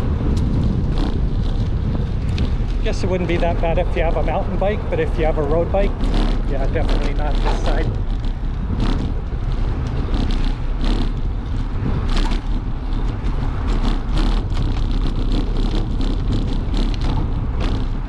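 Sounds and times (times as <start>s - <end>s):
bicycle rattling over rough pavement: 0.0s - 18.0s.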